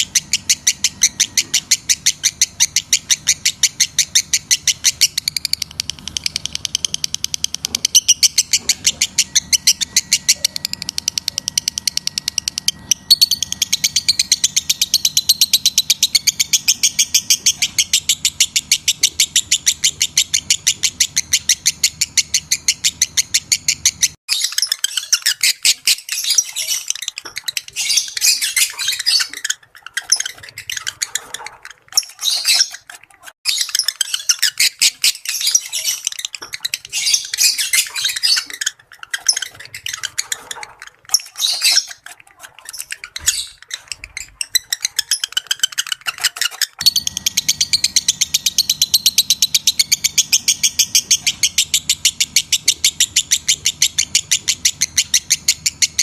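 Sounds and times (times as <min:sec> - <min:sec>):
lovebird chirping: 0:00.0 - 0:56.0.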